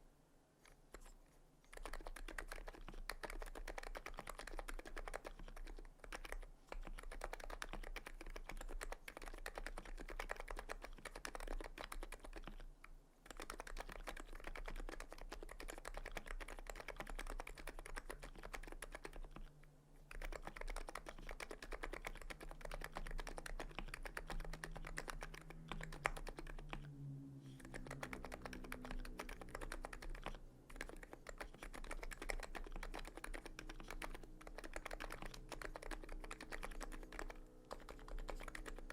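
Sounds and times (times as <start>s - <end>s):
fast keyboard typing: 1.7s - 38.9s.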